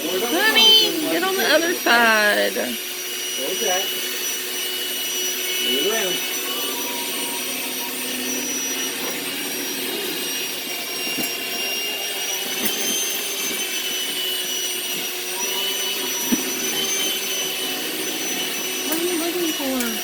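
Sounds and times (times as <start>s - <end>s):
electric hand mixer whining: 0.0s - 20.0s.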